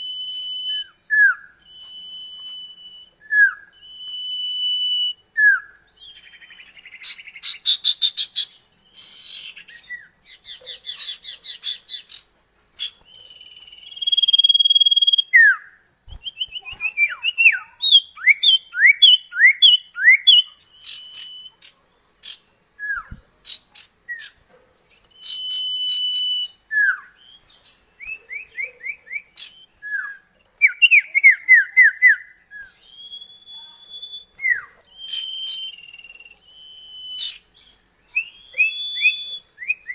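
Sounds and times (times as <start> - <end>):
bird singing whistles: 0.0 - 12.2, 12.8 - 39.9.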